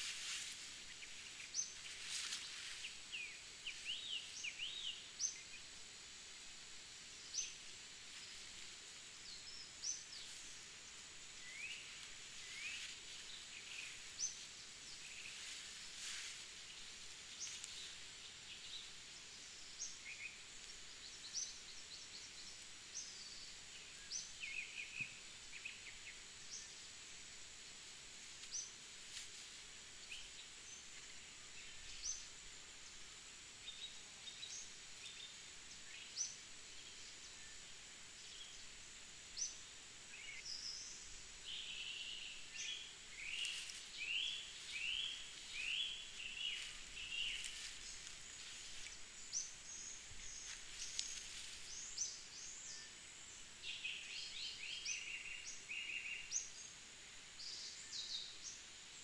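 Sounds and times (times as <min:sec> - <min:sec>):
high-pitched insect hum: 0:00.0 - 0:59.0
insects chirping: 0:00.0 - 0:59.0
rustle of dry leaf litter: 0:00.0 - 0:59.0.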